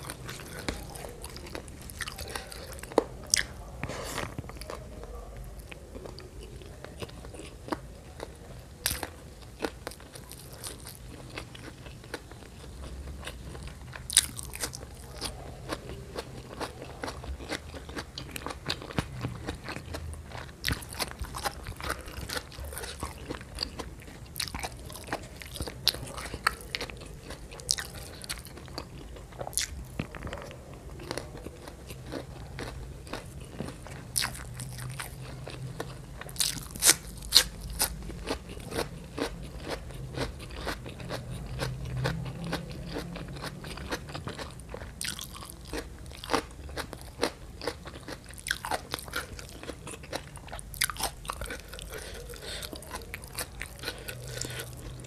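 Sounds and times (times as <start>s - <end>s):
person biting and chewing food: 0.0s - 4.8s, 5.5s - 55.0s
sharp food crunches: 8.8s - 55.0s.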